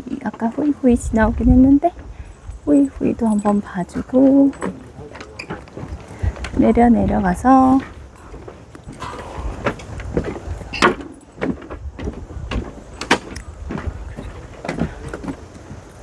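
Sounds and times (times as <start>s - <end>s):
footsteps on hard path: 0.2s - 16.0s.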